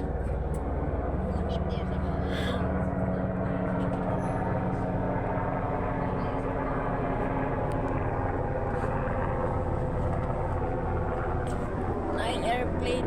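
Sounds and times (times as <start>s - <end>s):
airplane engine drone: 0.0s - 13.0s.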